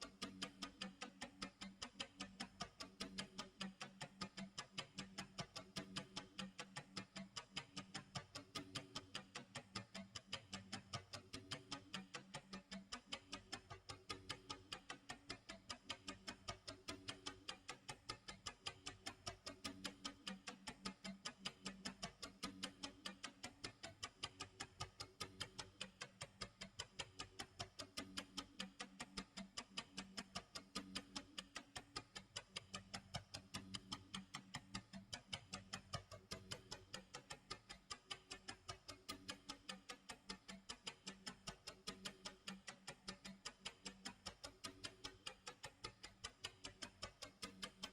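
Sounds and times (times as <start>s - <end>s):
clock ticking: 0.0s - 47.9s.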